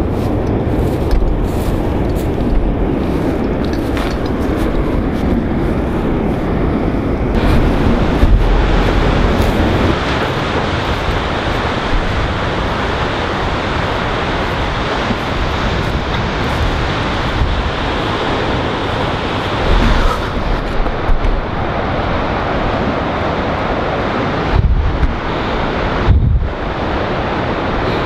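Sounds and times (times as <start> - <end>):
waves churning over rocky shore: 0.0 - 28.0
wind buffeting microphone: 0.0 - 28.0.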